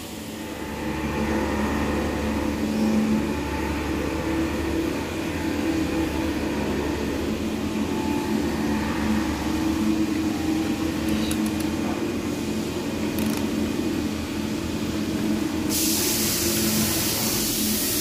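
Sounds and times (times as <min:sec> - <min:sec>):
machining centre humming: 0:00.0 - 0:18.0.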